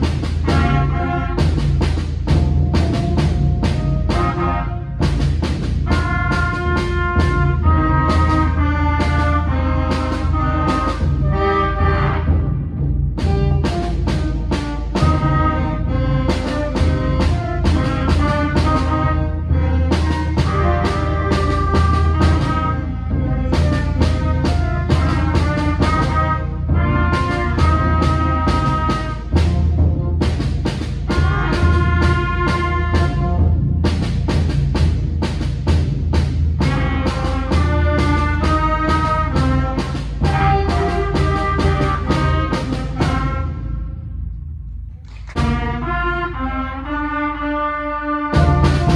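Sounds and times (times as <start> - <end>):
concert band playing: 0.0 - 44.2, 48.2 - 48.9
drum strokes: 0.0 - 46.0, 48.3 - 48.9
trumpets holding chords: 0.2 - 1.8, 2.8 - 30.3, 31.1 - 33.6, 36.6 - 44.1, 45.4 - 48.9.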